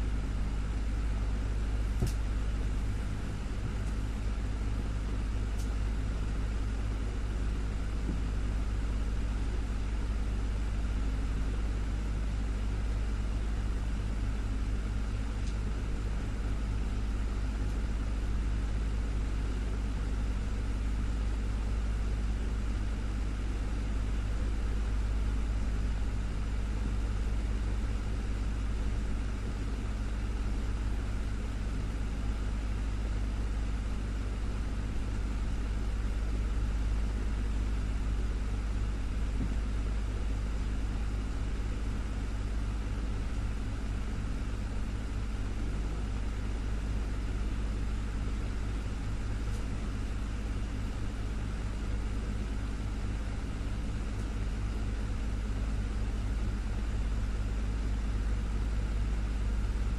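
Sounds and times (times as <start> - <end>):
desktop fan running: 0.0 - 59.9.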